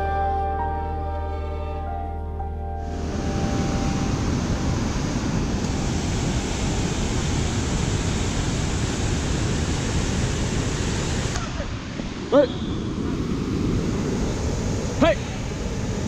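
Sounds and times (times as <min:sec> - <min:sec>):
rushing white water roar: 0:02.8 - 0:16.0.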